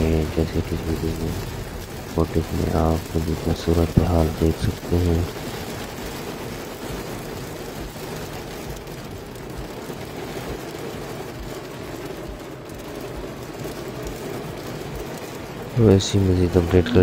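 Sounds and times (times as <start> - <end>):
heavy rain on car windshield: 0.0 - 17.0
low road rumble: 0.0 - 17.0.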